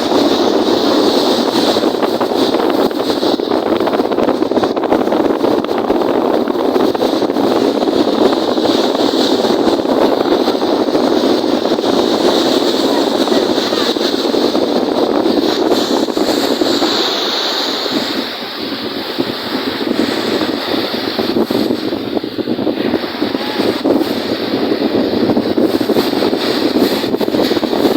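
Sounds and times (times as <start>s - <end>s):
waves on a lake: 0.0s - 27.9s
wind buffeting microphone: 0.0s - 27.9s.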